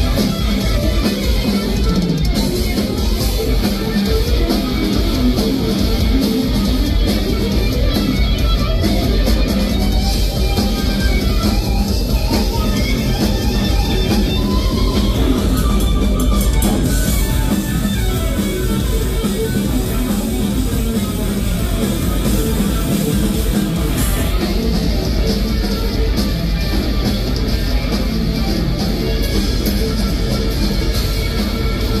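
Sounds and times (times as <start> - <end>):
bass guitar: 0.0 - 32.0
drum kit: 0.0 - 32.0
electric guitar: 0.0 - 32.0.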